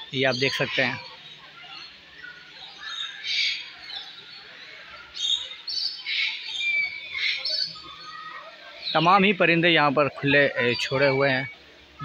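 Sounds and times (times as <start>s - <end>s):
birds squawking and calling: 0.0s - 12.0s.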